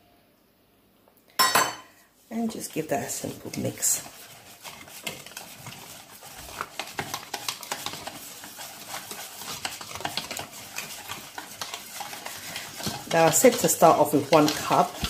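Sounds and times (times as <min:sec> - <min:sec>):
utensil stirring batter in bowl: 0:02.2 - 0:15.0.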